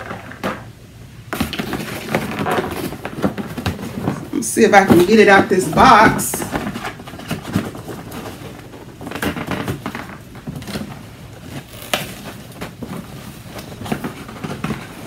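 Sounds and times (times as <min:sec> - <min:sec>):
cardboard box scraping and rustling: 0:01.4 - 0:15.0.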